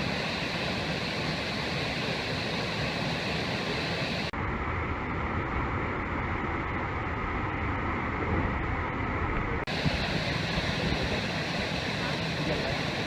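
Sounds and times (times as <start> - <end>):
waterfall roaring: 0.0 - 4.4, 6.8 - 13.0.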